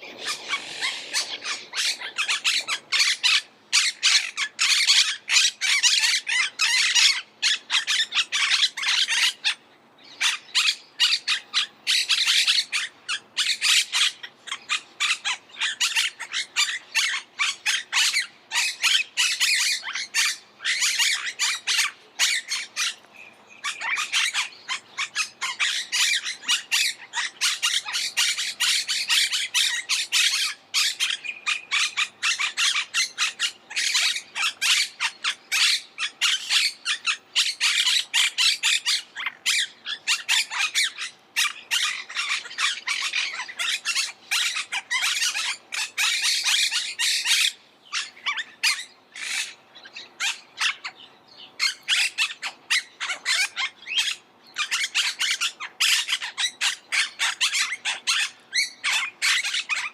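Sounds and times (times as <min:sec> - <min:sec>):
parakeets squawking: 0:00.0 - 0:51.0, 0:51.6 - 0:59.9.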